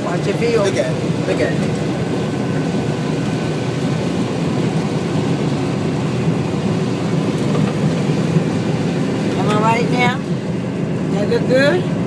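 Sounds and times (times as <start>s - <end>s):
farm machinery engine running: 0.0s - 12.0s.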